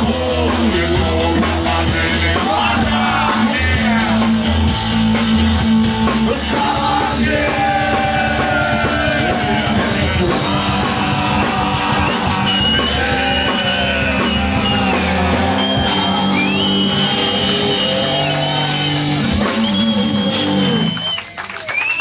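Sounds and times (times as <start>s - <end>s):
distorted electric guitars: 0.0s - 21.1s
bass guitar: 0.0s - 21.2s
drum kit: 0.0s - 21.2s.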